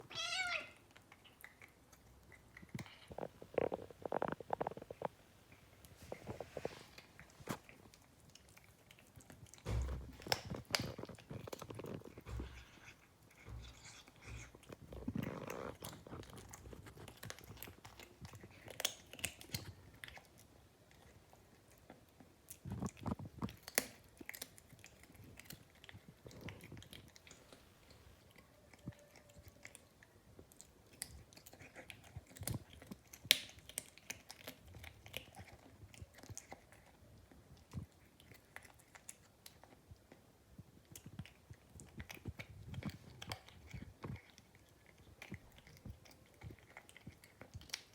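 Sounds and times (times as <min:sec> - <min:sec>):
cat chewing food: 0:00.4 - 0:47.9.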